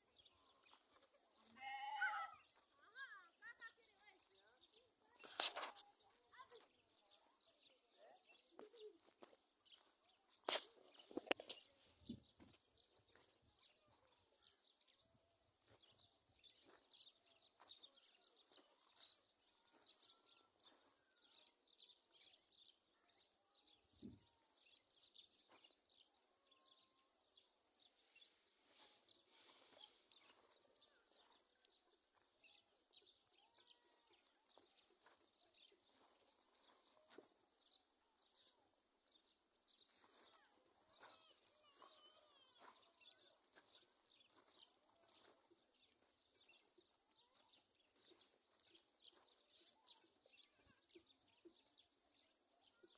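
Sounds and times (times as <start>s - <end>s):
faint ticks and rustles: 0.0s - 52.9s
insects chirring: 0.0s - 52.9s.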